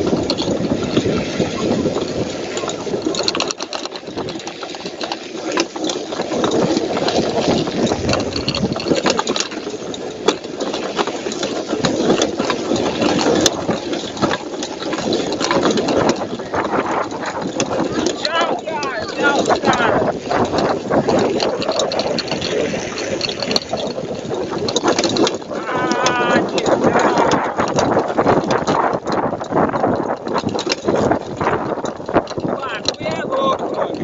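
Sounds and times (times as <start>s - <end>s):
bike rattles and knocks: 0.0s - 34.0s
wind buffeting microphone: 0.0s - 34.0s.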